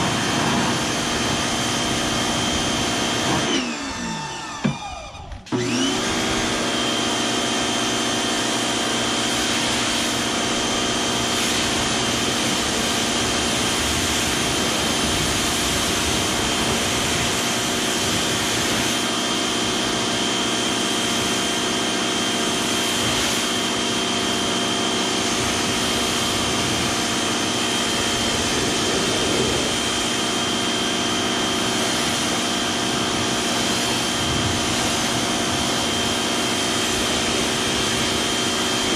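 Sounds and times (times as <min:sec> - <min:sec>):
electric pressure washer whining: 0:00.0 - 0:38.9.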